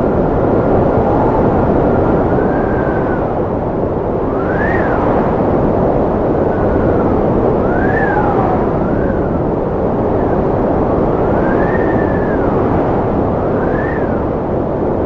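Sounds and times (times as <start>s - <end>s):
strong wind whistling: 0.0s - 15.0s.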